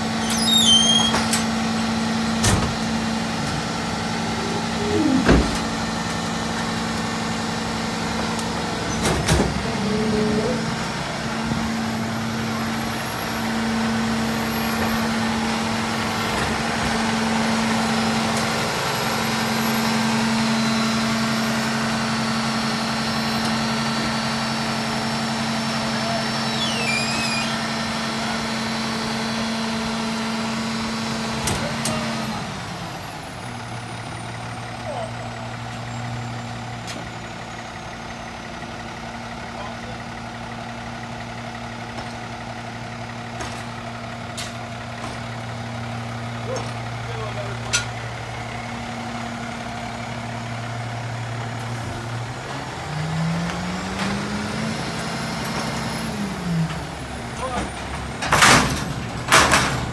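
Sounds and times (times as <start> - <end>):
garbage truck engine running: 0.0 - 59.9.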